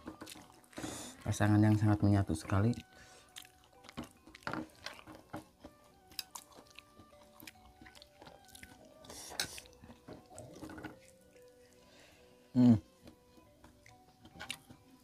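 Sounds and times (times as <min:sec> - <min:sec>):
mouth chewing food: 0:00.0 - 0:01.8, 0:02.4 - 0:12.0, 0:12.8 - 0:15.0.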